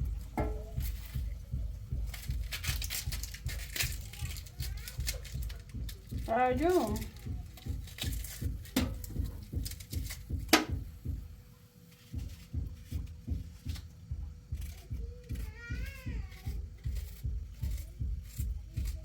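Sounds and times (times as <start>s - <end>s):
rhythmic low thumps: 0.0s - 19.0s.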